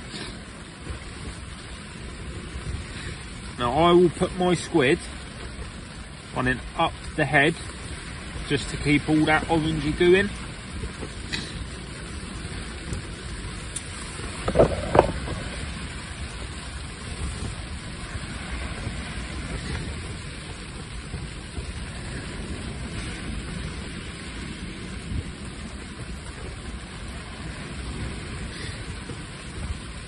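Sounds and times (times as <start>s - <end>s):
rain pattering on canopy: 0.0s - 30.0s
steady low rumble: 0.0s - 30.0s.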